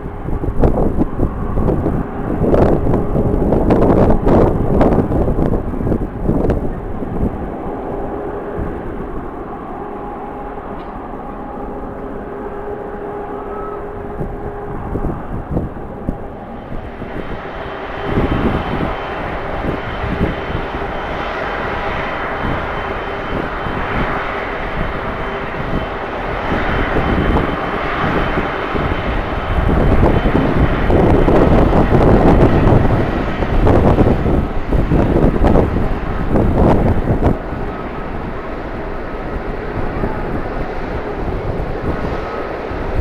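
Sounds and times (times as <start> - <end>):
jet engines whining: 0.0 - 43.0
wind buffeting microphone: 0.0 - 43.0.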